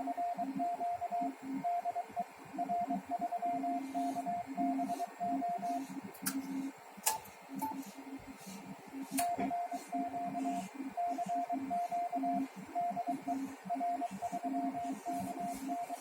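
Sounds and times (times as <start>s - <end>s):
morse code beeps: 0.0s - 6.0s, 8.9s - 16.0s
low pulsing hum: 0.0s - 16.0s.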